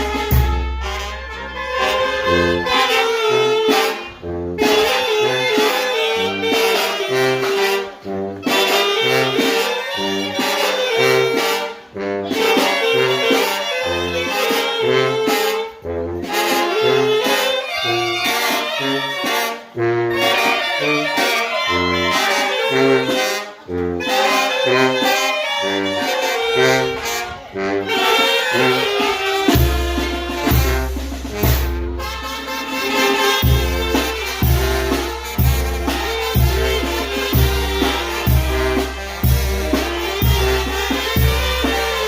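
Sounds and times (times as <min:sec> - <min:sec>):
brass band playing: 0:00.0 - 0:42.0.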